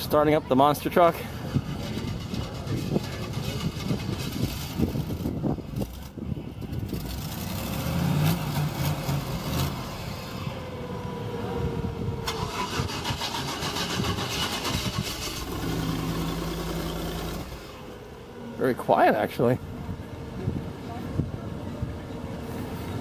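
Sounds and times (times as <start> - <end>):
truck engine starting and idling: 0.0 - 23.0.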